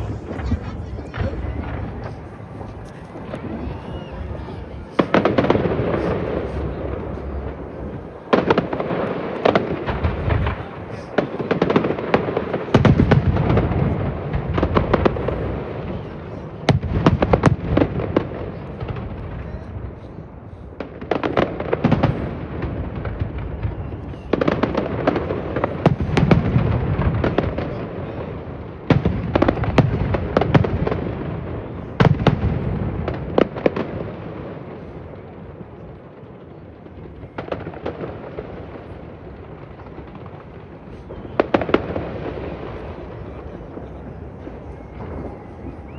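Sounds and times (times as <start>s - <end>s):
fireworks bursting with sharp bangs: 0.0s - 45.9s
fireworks crackling: 0.0s - 45.9s.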